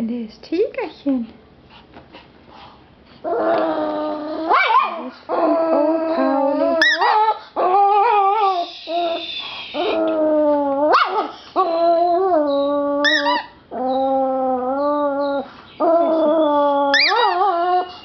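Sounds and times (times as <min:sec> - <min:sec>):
dog howling: 0:03.3 - 0:18.0.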